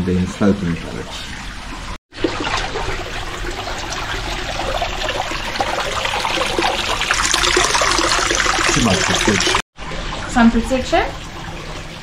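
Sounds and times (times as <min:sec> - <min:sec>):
water trickling into pond: 0:00.8 - 0:12.0.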